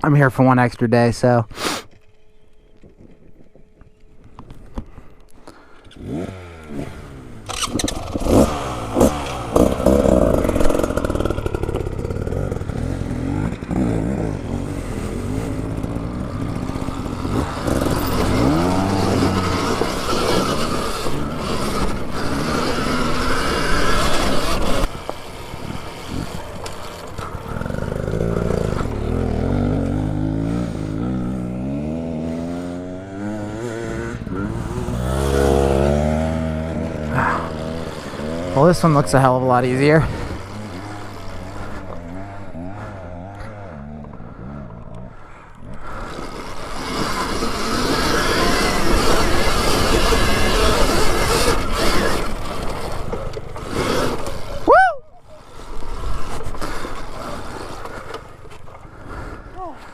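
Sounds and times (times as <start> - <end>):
dirt bike revving: 5.5 - 59.9.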